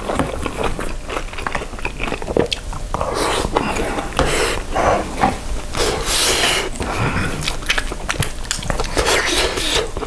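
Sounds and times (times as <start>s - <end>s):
wet chewing mouth sounds: 0.0s - 10.0s.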